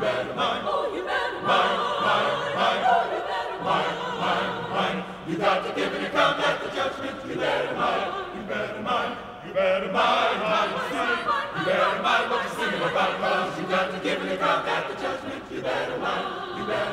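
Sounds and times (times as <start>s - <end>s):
choir singing: 0.0s - 16.9s.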